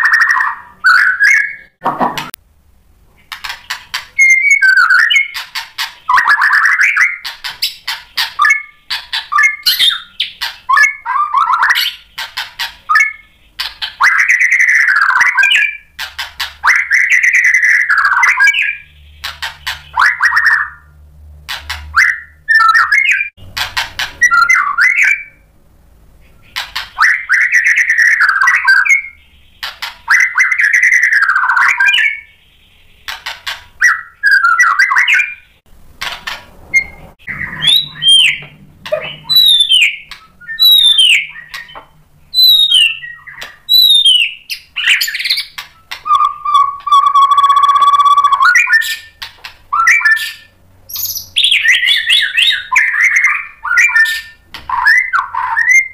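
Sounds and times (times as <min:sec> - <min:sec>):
bird singing varied song: 0:00.0 - 0:01.8, 0:03.2 - 0:16.0, 0:16.6 - 0:21.0, 0:21.7 - 0:25.5, 0:26.2 - 0:35.6, 0:36.8 - 0:55.9.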